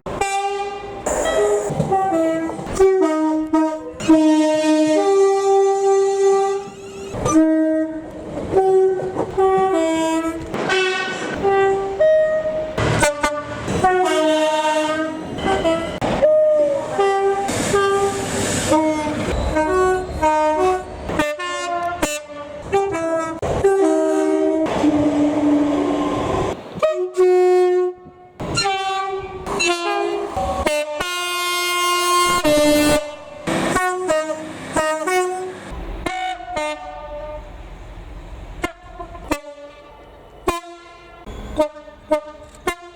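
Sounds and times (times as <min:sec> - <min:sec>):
rumbling rail noise: 0:00.0 - 0:42.9
train horn blasts: 0:00.1 - 0:37.5, 0:38.6 - 0:42.9.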